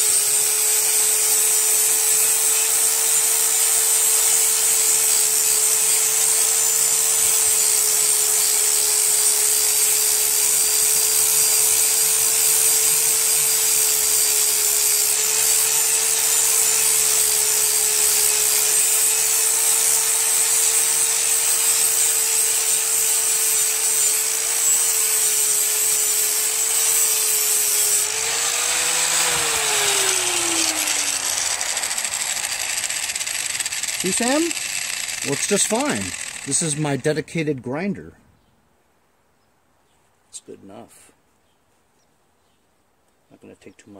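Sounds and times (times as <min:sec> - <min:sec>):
grinder winding down: 0:00.0 - 0:37.4
angle grinder grinding steel: 0:00.0 - 0:37.5.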